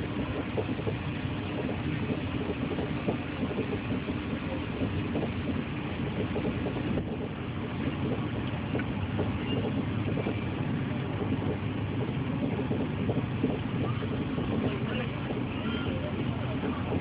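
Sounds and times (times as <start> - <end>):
train rumble from inside carriage: 0.0 - 17.0.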